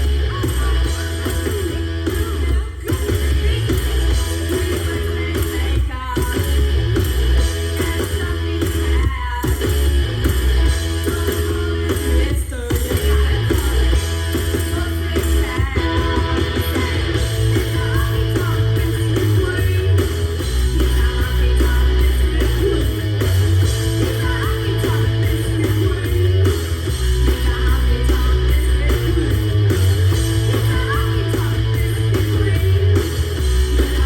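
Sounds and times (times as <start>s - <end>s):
guitar: 0.0s - 34.0s
heavy bass line: 0.0s - 34.0s
person singing: 0.0s - 34.0s.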